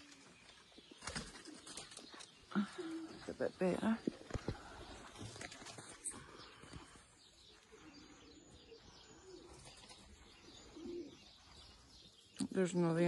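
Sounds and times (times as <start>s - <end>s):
pigeons cooing faintly: 0.0s - 12.9s.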